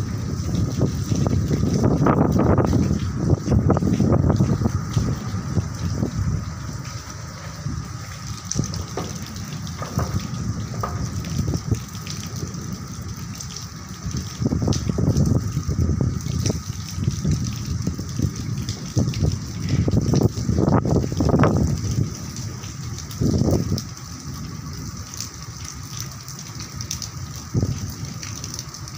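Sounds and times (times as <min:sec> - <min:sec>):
rain pouring down: 0:00.0 - 0:28.9
wind buffeting microphone: 0:00.0 - 0:28.9.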